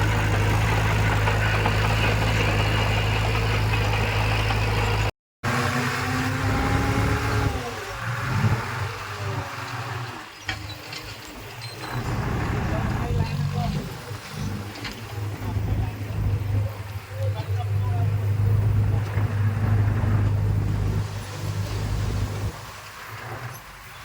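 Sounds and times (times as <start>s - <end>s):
diesel engine running: 0.0s - 23.6s.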